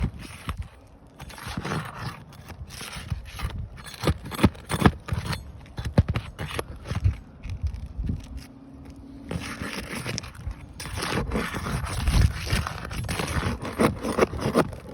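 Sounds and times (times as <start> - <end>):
clicks knocks and scrapes: 0.0 - 14.9.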